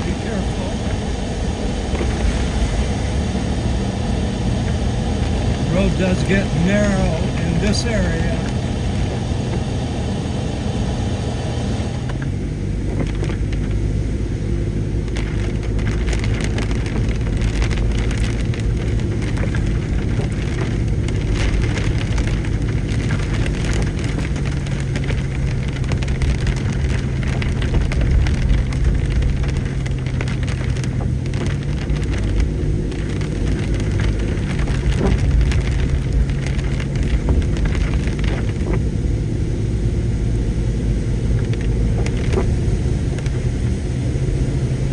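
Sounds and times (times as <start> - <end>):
car engine hum: 0.0 - 44.9
tyre and road noise: 0.0 - 44.9.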